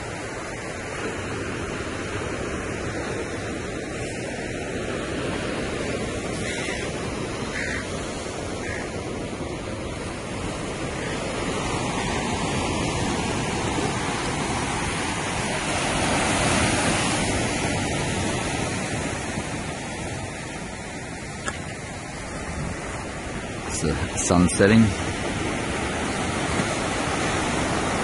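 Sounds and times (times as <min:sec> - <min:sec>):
ocean surf washing ashore: 0:00.0 - 0:28.0.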